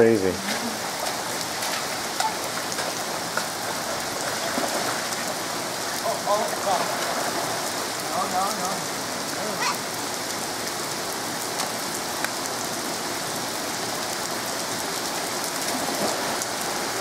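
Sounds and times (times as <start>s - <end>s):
heavy rain on pavement: 0.0s - 17.0s.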